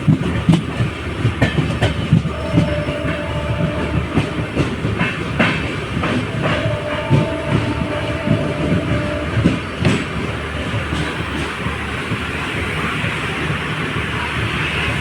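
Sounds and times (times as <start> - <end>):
train rumble: 0.0 - 15.0
train wheels clacking over joints: 0.0 - 15.0.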